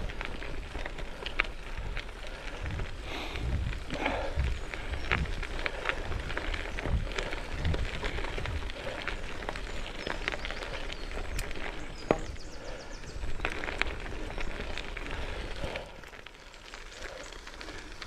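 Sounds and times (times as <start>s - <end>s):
wind rumble on microphone: 0.0s - 16.0s
bike tyres crunching over gravel: 0.0s - 18.0s.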